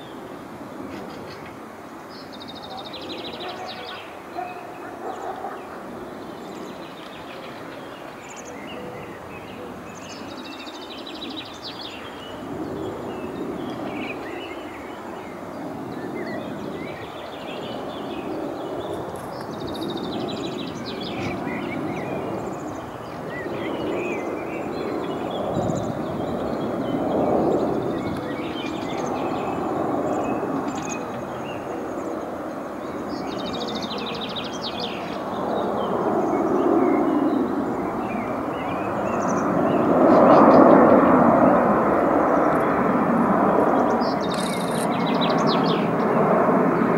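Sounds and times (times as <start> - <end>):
jet engines roaring: 0.0 - 46.9
small birds chirping: 2.1 - 41.1, 43.6 - 46.9.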